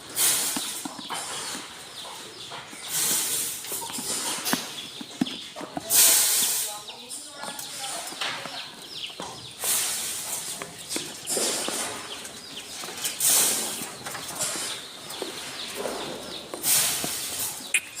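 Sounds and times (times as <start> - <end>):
sheep rustling and shuffling: 0.0 - 17.7.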